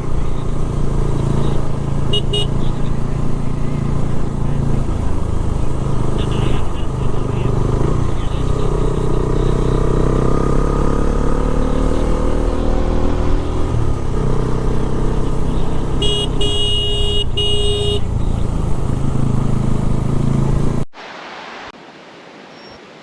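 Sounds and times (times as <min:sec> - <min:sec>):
vehicle horn honking: 0:00.0 - 0:10.7, 0:11.4 - 0:19.6
motorcycle engine: 0:00.0 - 0:20.9
road noise: 0:00.0 - 0:23.0.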